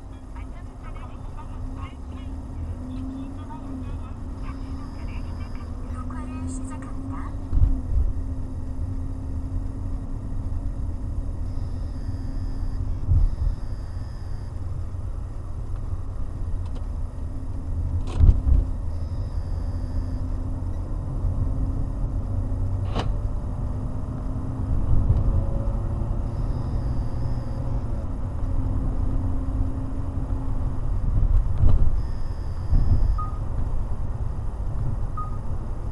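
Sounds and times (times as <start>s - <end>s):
car engine and tyre rumble: 0.0s - 35.9s.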